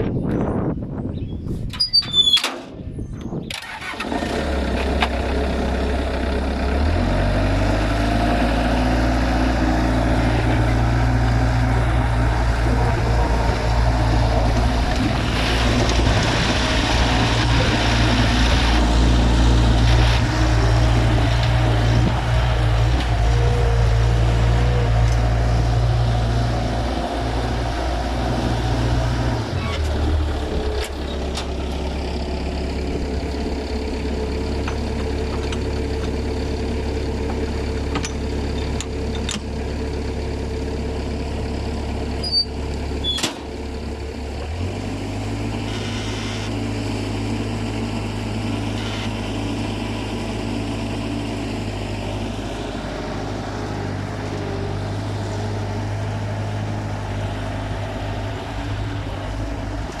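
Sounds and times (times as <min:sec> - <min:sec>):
skid steer engine running: 0:03.2 - 1:00.0.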